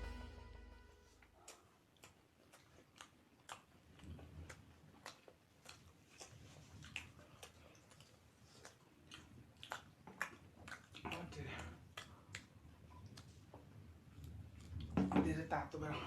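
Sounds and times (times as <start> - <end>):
faint chewing: 1.2 - 15.0.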